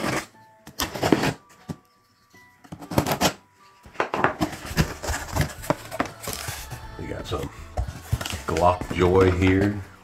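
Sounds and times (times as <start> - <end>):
tape and cardboard rustling: 0.0 - 1.8, 2.6 - 9.6.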